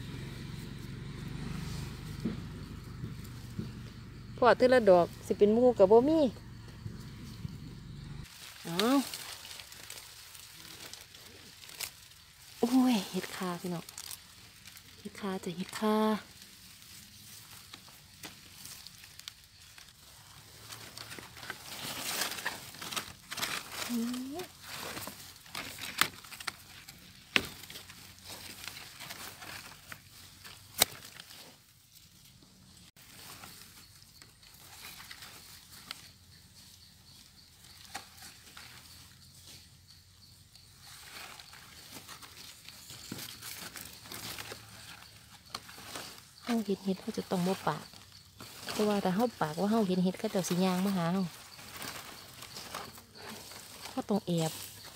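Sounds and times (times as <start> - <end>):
grass and leaves rustling: 0.0 - 54.9.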